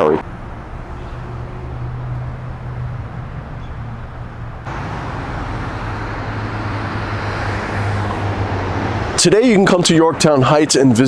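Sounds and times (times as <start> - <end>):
passing cars rumble: 0.1 - 11.0.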